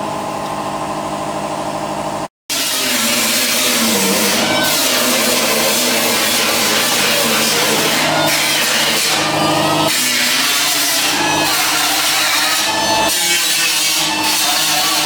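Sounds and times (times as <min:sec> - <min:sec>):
power tool grinding metal: 0:02.5 - 0:15.0.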